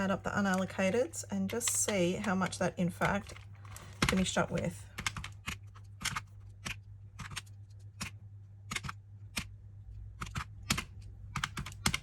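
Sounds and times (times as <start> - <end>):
faint low hum: 0.0 - 12.0
calculator buttons clicking: 0.4 - 12.0.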